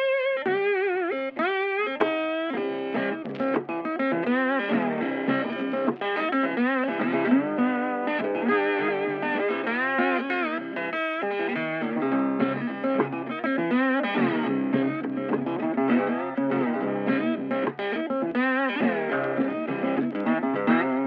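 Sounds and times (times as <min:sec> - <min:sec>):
guitar melody with bent notes: 0:00.0 - 0:21.0.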